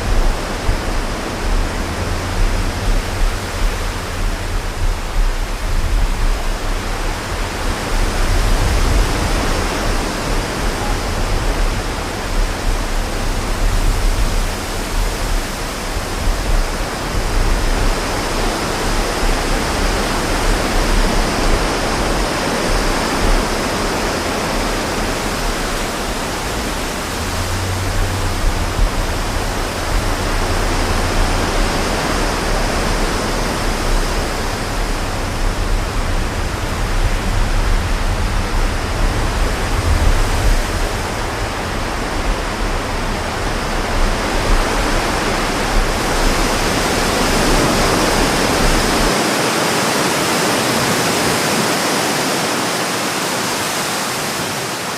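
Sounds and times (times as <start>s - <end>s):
strong wind buffeting microphone: 0.0s - 52.3s.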